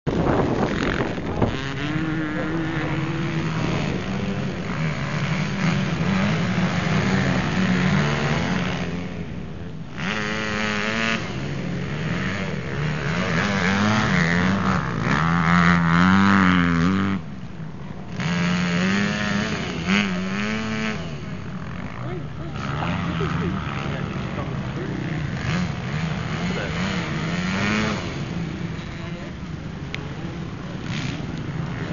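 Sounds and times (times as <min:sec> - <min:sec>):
motocross motorcycle engines revving: 0:00.1 - 0:31.9.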